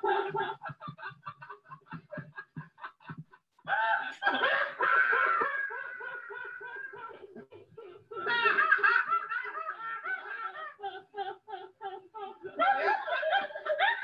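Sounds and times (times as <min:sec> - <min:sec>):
woman laughing: 0:00.0 - 0:14.0.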